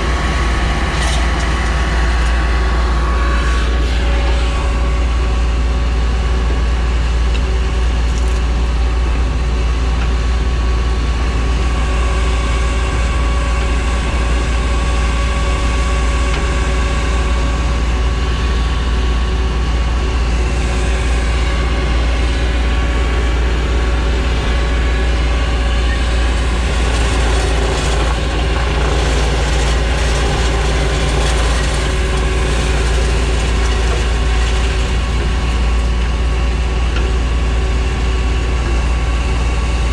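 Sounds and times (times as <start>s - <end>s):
large engine running steadily: 0.0s - 39.9s.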